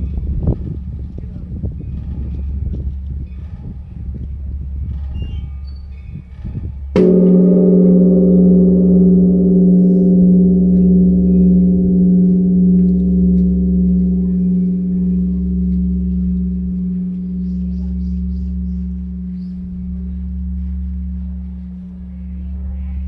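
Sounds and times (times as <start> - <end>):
large bronze bell ringing: 0.0 - 23.0.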